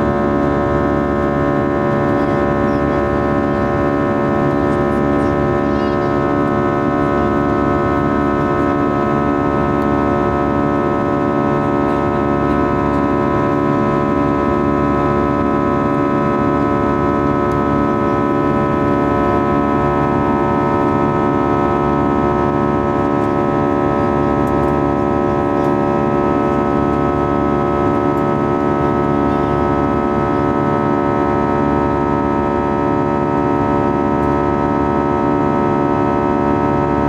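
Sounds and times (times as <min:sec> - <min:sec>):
jet engine drone in cabin: 0:00.0 - 0:37.0.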